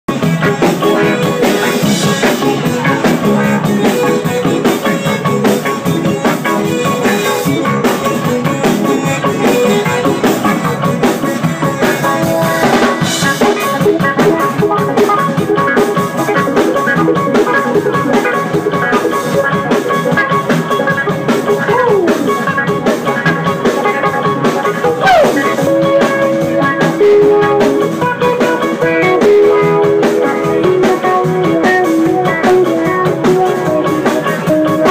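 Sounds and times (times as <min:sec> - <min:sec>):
bass guitar: 0:00.0 - 0:34.9
drum kit: 0:00.1 - 0:34.9
electric guitar: 0:00.1 - 0:34.9.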